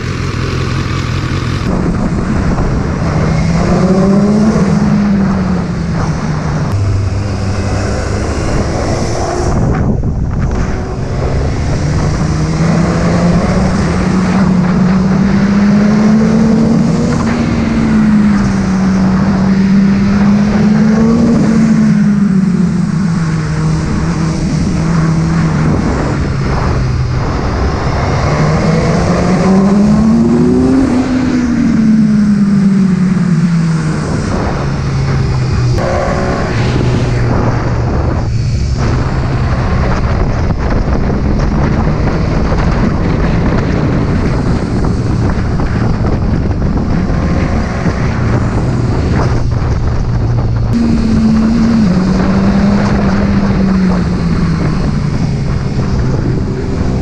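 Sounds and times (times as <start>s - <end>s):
motorcycle engine revving: 0.0s - 57.0s
wind rush: 0.0s - 57.0s.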